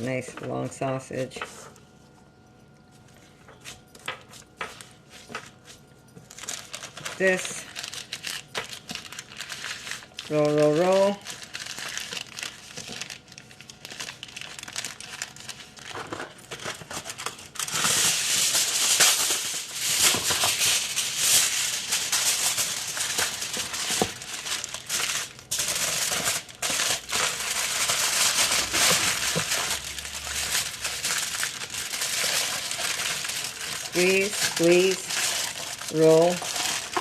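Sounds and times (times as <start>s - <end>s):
aluminium foil crinkling: 3.0s - 37.0s.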